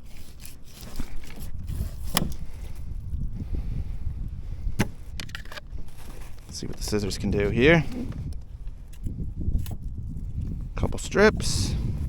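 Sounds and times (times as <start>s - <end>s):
steady low rumble: 1.5s - 12.0s.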